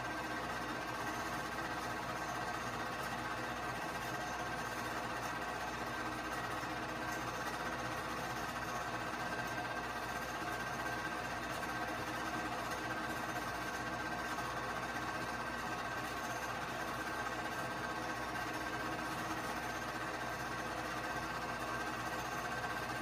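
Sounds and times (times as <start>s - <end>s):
movie projector whirring: 0.0s - 23.0s.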